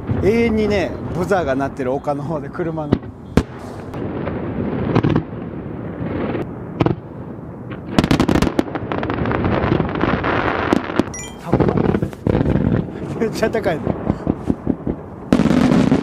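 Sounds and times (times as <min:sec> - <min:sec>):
crackling firework bangs: 0:00.0 - 0:02.0, 0:02.8 - 0:16.0
firework booms: 0:00.0 - 0:16.0.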